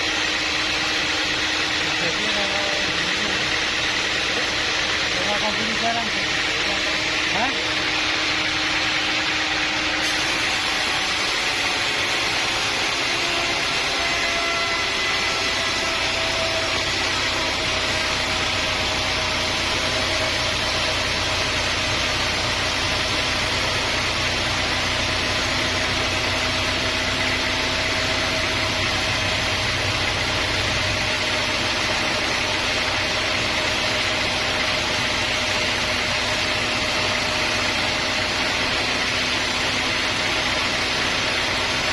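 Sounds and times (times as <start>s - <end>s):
sawmill machinery drone: 0.0s - 41.9s.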